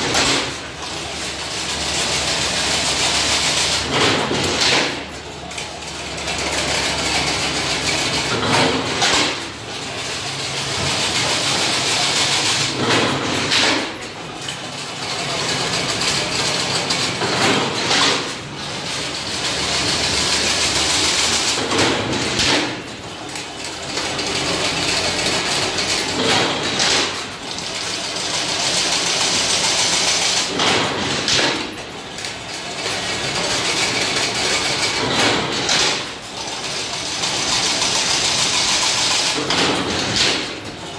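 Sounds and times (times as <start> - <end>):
machine mechanical clatter: 0.0 - 40.9.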